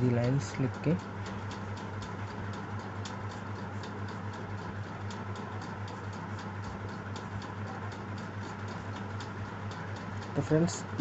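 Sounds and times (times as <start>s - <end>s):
rapid ticking: 0.0s - 11.0s
steady low hum: 0.0s - 11.0s.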